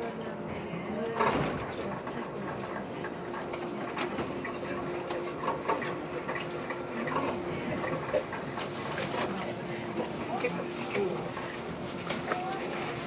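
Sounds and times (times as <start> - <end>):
train running noise with hum: 0.0 - 13.0.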